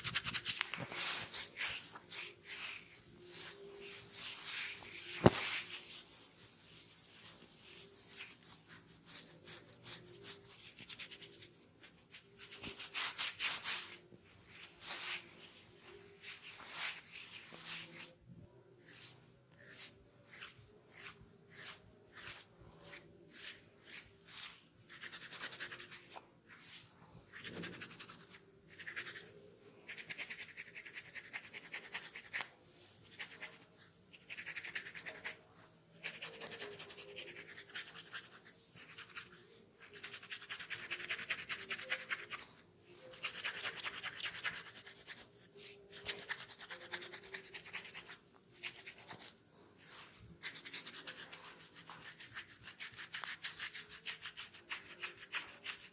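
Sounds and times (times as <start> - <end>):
scratching scalp through hair: 0.0 - 18.2, 18.8 - 55.9.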